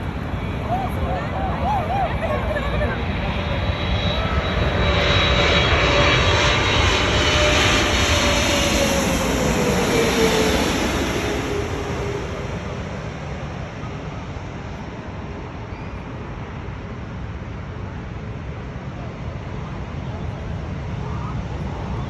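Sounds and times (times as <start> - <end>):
jet engines whining: 0.0 - 16.7, 19.5 - 22.0.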